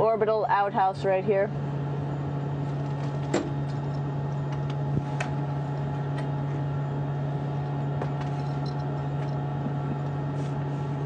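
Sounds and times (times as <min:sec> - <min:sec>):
ventilation fans humming: 0:00.0 - 0:11.0.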